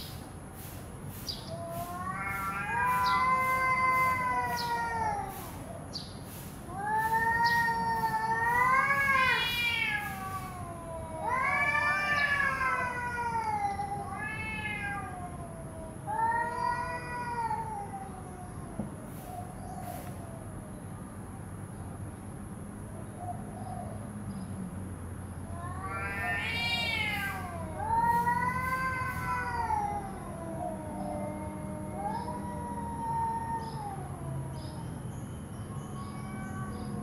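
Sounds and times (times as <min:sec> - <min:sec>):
cats yowling: 0:01.4 - 0:05.9, 0:06.6 - 0:20.4, 0:25.4 - 0:37.0.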